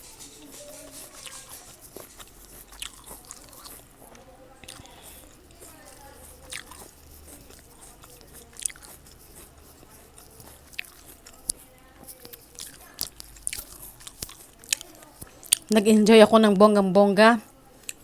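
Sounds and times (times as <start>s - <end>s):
chewing fruit: 0.0s - 18.0s.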